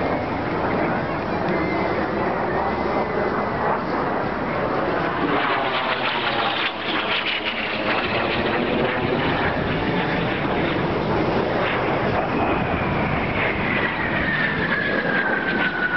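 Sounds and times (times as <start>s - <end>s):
jet aircraft flying by: 0.0s - 15.9s.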